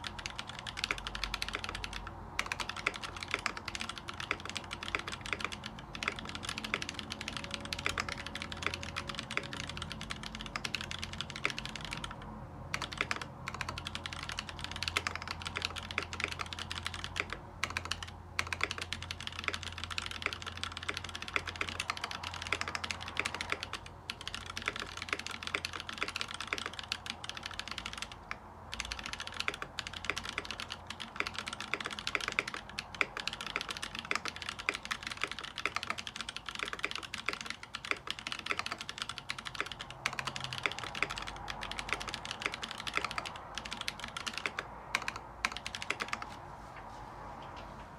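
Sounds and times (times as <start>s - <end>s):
mechanical keyboard typing: 0.0s - 46.4s.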